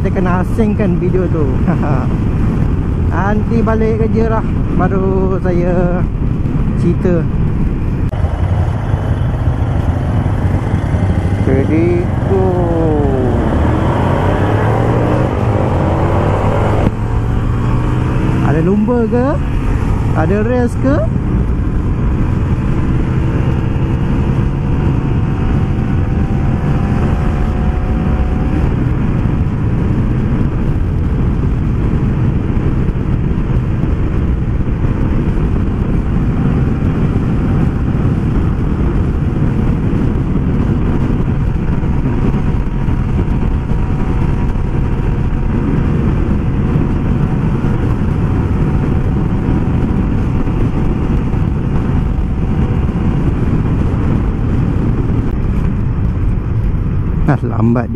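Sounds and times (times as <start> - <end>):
motorcycle engine running: 0.0 - 57.3
wind rushing over microphone: 0.0 - 57.9.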